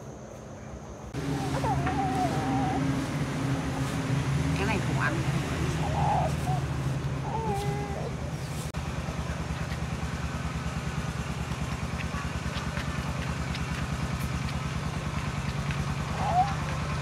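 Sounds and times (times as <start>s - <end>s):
small engine puttering: 1.2s - 17.0s.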